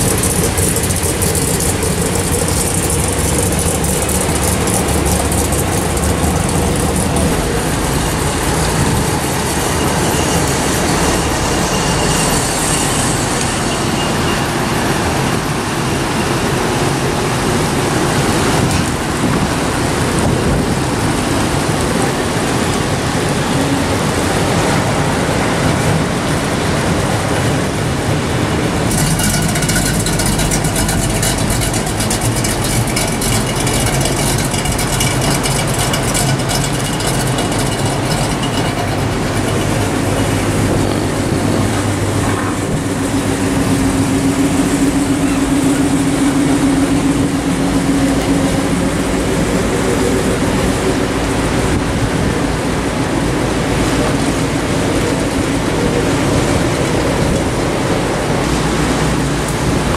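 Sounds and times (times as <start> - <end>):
car engine rumble: 0.0 - 59.9
rain: 0.0 - 59.9.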